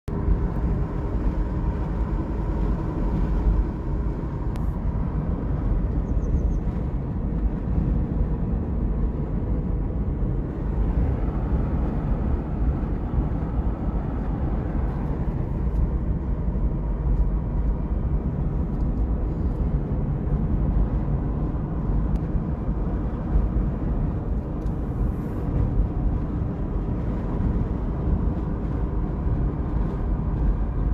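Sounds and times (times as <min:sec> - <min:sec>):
vehicle rumble in motion: 0:00.0 - 0:30.9.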